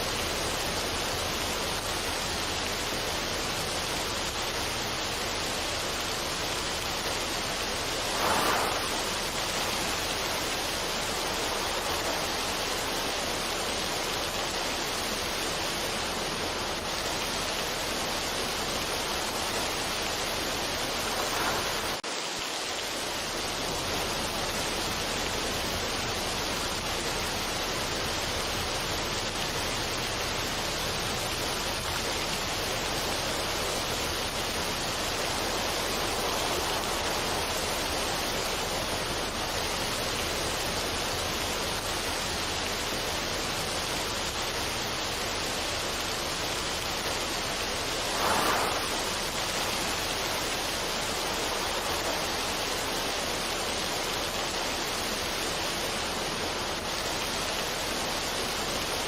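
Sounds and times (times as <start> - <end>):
steady rushing noise: 0.0 - 42.4, 43.4 - 58.6.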